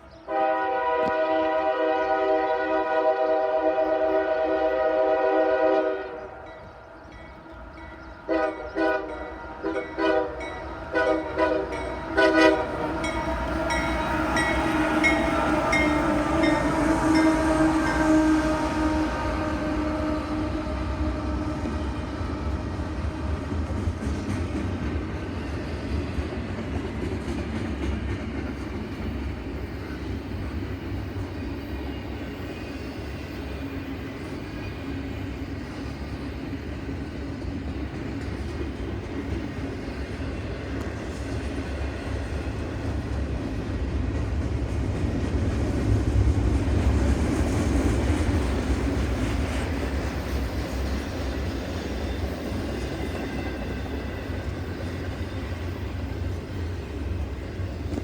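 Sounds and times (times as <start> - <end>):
train rumbling past: 0.0 - 58.0.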